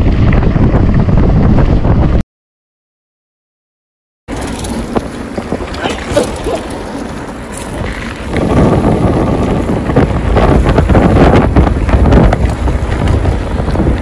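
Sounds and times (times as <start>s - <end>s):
wind buffeting microphone: 0.0s - 2.2s, 4.3s - 14.0s.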